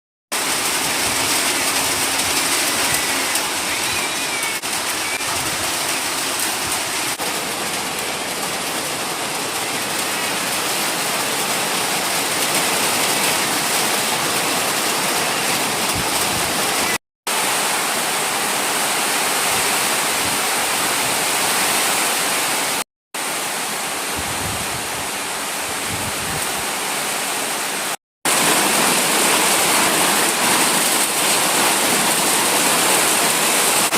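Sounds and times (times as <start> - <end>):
rushing water: 0.3 - 33.9.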